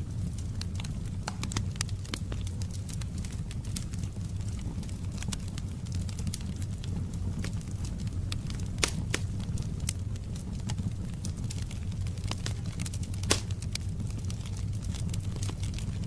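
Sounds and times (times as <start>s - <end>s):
loud fire pops: 0.0s - 16.0s
wood fire crackling: 0.0s - 16.0s.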